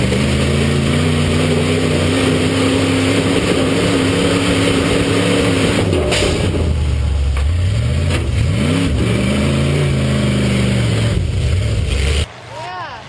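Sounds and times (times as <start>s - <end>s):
truck engines revving: 0.0s - 12.6s.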